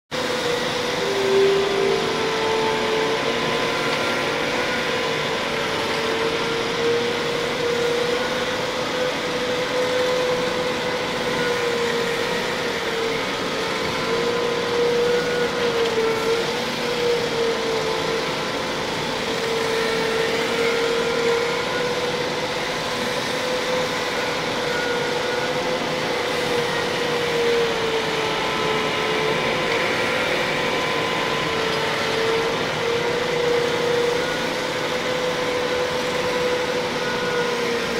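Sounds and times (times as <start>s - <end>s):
honing machine drone and whine: 0.1s - 37.9s.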